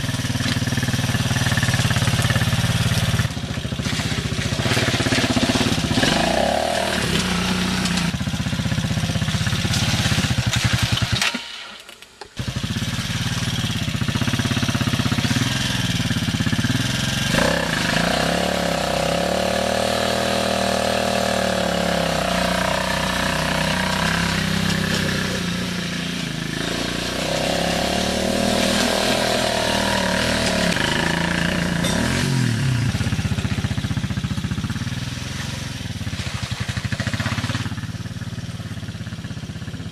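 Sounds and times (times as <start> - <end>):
engine revving under load: 0.0 - 11.4, 12.4 - 38.4.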